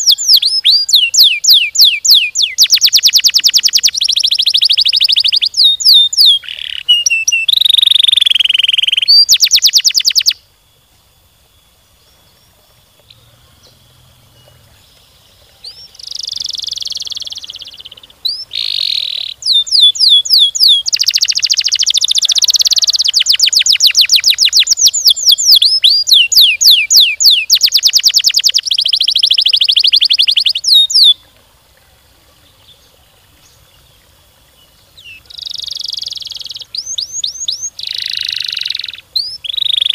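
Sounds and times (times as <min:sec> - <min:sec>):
canary singing trills: 0:00.0 - 0:10.4, 0:12.0 - 0:31.3, 0:32.4 - 0:39.9.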